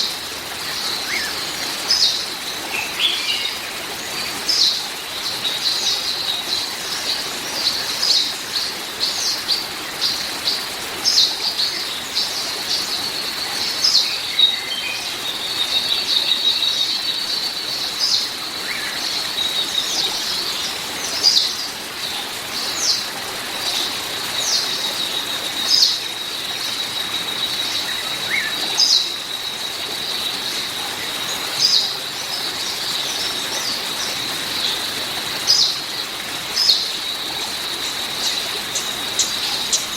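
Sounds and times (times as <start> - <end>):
hiss of water: 0.0 - 39.9
small birds chirping: 0.0 - 39.9.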